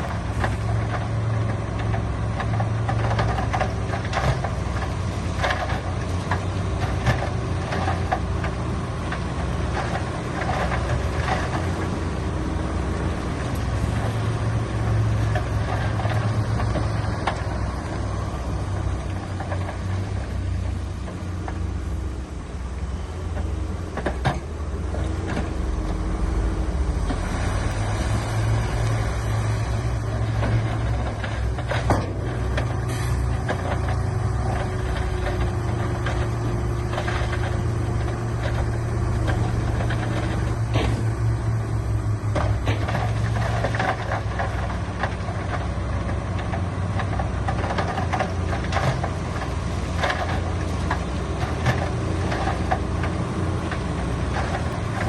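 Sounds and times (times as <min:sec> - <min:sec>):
diesel construction machinery running: 0:00.0 - 0:55.0.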